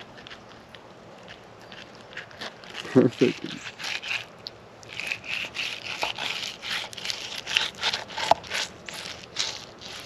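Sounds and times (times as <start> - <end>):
knife scraping fish scales: 0.0 - 10.0.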